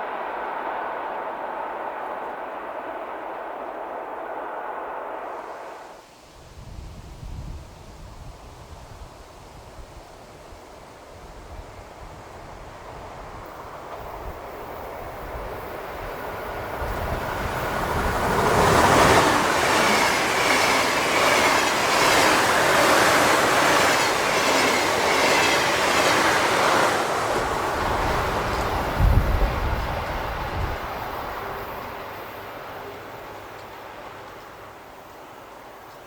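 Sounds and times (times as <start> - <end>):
electric train passing: 0.0 - 6.0, 10.4 - 36.0.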